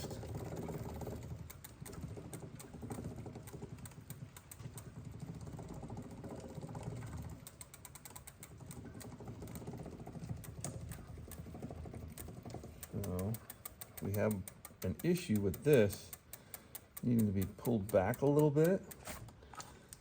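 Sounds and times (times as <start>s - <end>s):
bicycle chain running: 0.0s - 19.0s
bicycle freewheel ratcheting clicks: 0.0s - 19.1s.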